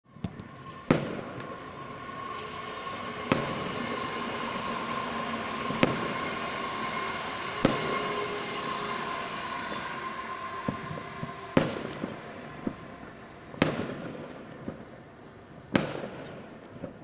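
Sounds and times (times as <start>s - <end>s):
firework bangs: 0.1s - 15.1s, 15.7s - 17.0s
background hiss: 0.1s - 16.9s.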